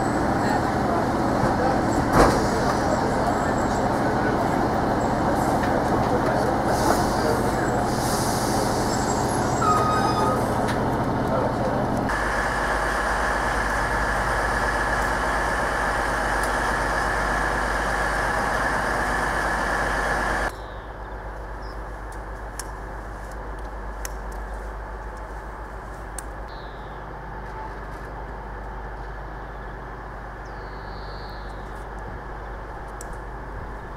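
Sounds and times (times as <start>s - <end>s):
diesel train engine idling: 0.0s - 33.9s.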